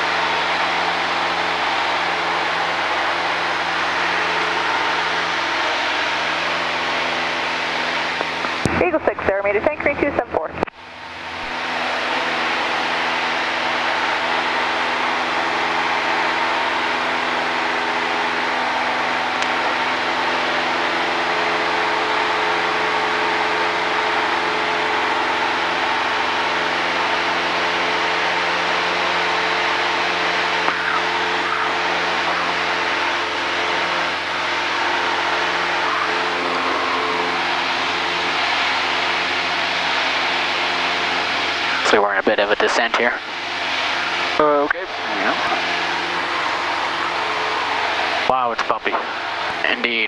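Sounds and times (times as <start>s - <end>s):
airplane engine drone: 0.0s - 50.0s.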